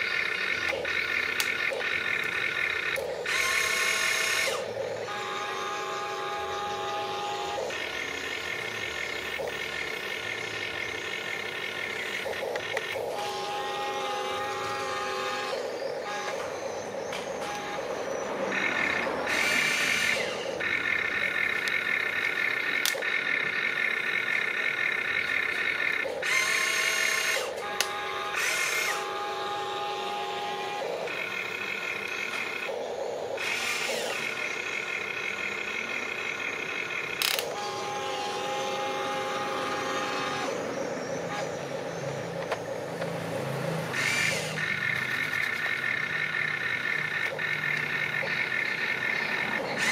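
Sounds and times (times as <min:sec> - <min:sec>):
model excavator motors whining: 0:00.0 - 0:49.9.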